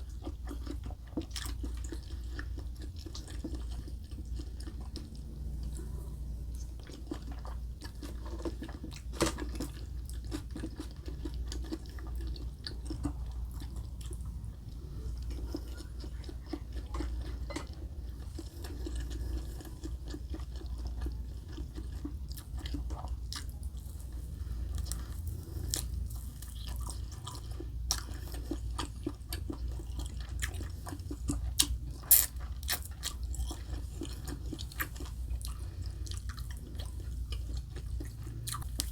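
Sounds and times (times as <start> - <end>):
chewing and crunching food: 0.0 - 38.9
steady low hum: 0.0 - 38.9.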